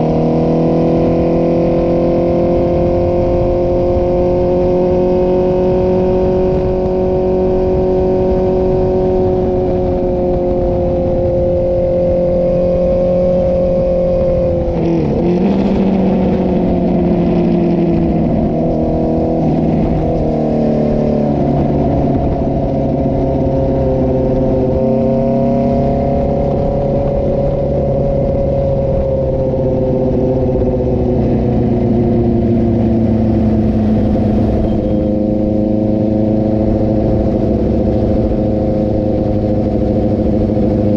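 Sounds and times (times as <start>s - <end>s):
motorcycle exhaust running: 0.0s - 40.9s.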